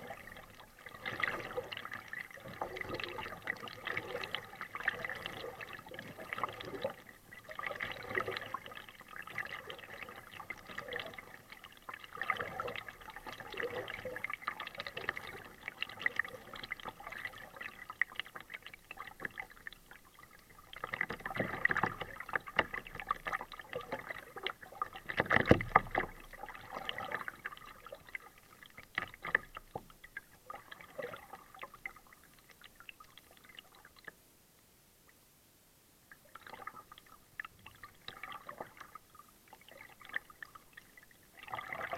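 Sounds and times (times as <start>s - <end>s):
paddle splashing in water: 0.0s - 32.6s, 36.3s - 41.9s
water dripping and trickling: 0.0s - 34.1s.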